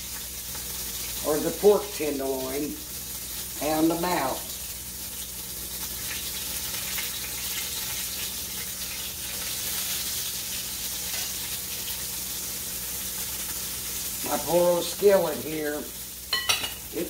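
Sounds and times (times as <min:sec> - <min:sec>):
steaks sizzling in oil: 0:00.0 - 0:17.0.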